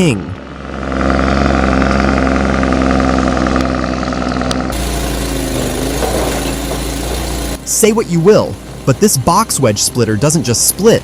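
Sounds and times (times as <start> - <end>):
diesel truck engine running: 0.0 - 11.0
engine drone: 0.0 - 11.0.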